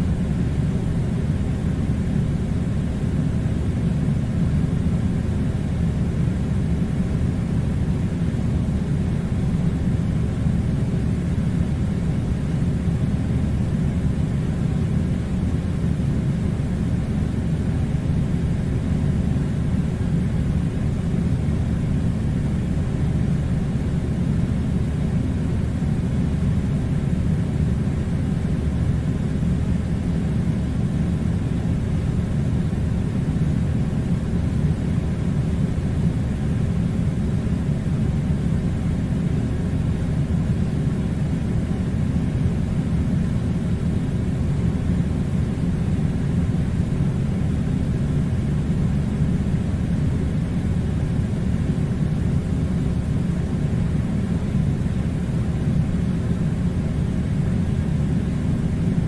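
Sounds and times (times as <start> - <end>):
air conditioner running: 0.0 - 59.0.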